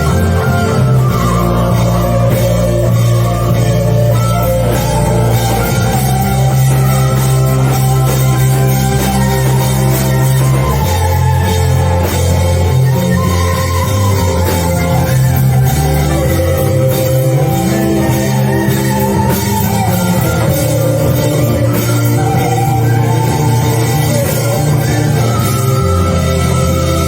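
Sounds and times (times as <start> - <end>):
held bass notes: 0.0 - 27.0
worship band music: 0.0 - 27.0.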